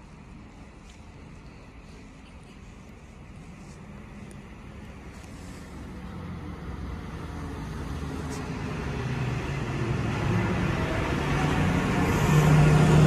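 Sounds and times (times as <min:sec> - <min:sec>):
train engine and wheel noise: 0:00.0 - 0:13.0.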